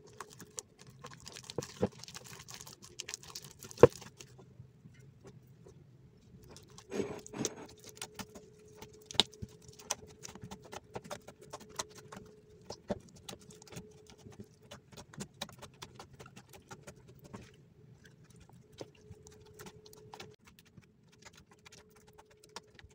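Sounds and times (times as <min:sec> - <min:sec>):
slime squishing with wet pops: 0:00.0 - 0:04.4, 0:06.4 - 0:22.9
faint steady hum: 0:00.0 - 0:22.9.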